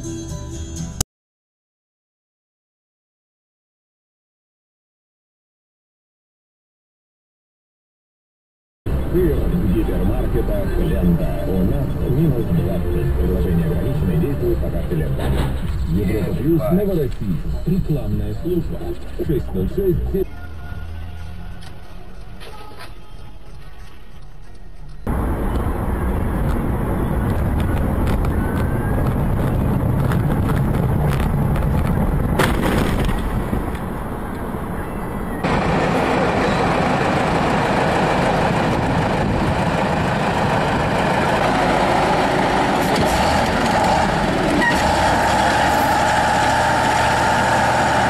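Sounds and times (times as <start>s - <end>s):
vehicle engine and road noise: 8.9s - 48.0s.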